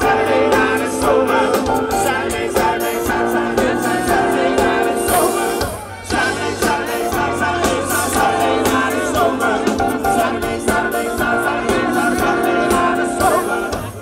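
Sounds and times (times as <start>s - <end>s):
live band playing: 0.0s - 14.0s
person singing: 0.0s - 14.0s
steady drum beat: 0.0s - 14.0s.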